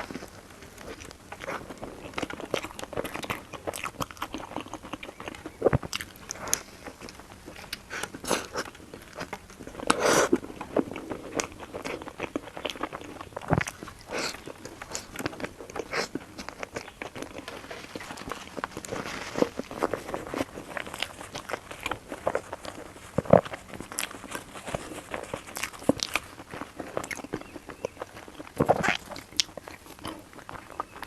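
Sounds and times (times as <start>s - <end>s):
chewing crunchy food: 0.0s - 31.0s.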